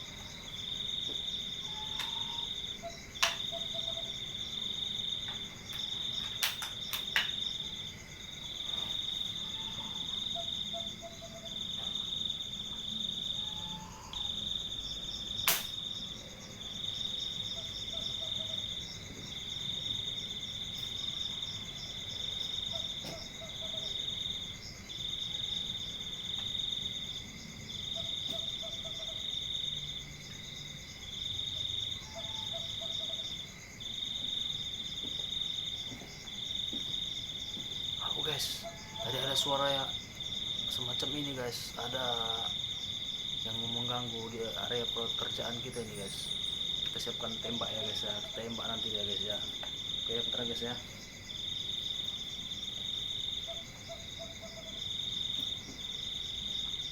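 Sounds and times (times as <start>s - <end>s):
cricket trilling: 0.0s - 56.9s.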